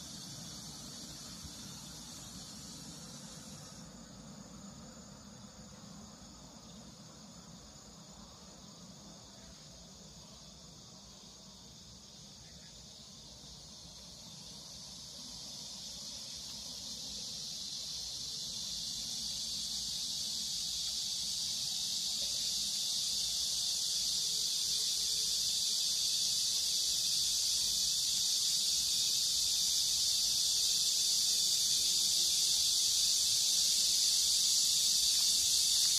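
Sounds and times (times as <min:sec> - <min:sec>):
insects singing in chorus: 0:00.0 - 0:35.9.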